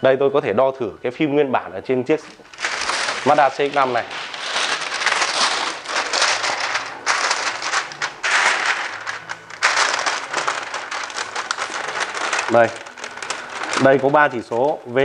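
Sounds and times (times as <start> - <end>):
plastic film crinkling: 2.2 - 15.0.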